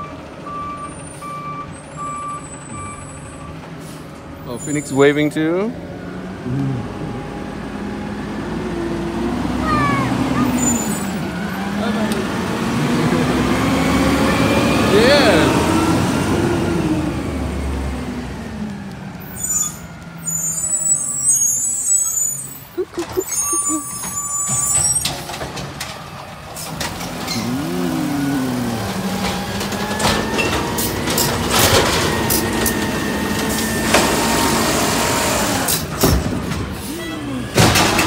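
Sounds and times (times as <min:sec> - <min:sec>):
garbage truck engine: 0:00.0 - 0:38.0.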